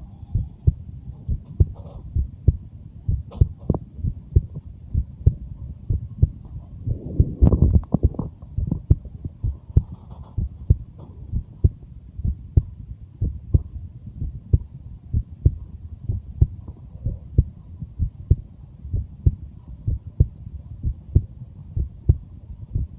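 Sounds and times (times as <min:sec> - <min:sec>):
heartbeat lub-dub thumps: 0:00.0 - 0:22.9
low hum: 0:00.0 - 0:22.9.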